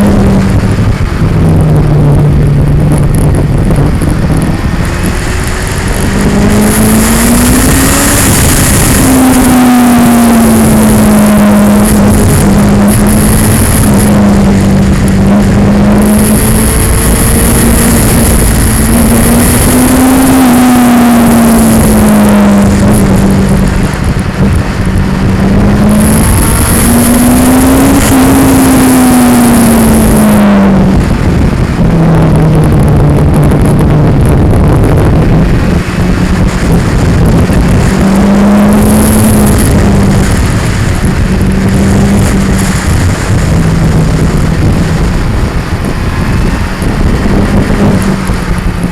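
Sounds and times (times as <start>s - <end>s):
camera vibration noise: 0.0s - 48.9s
motorcycle engine running: 0.0s - 48.9s.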